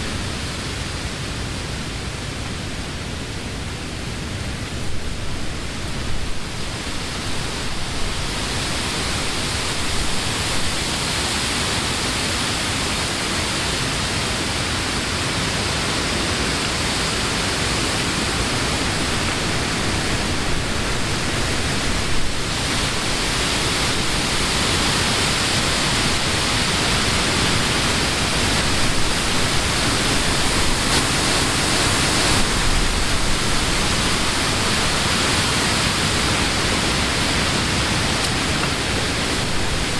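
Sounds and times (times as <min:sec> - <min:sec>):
low wind rumble: 0:00.0 - 0:39.9
wind rustling leaves: 0:00.0 - 0:39.9.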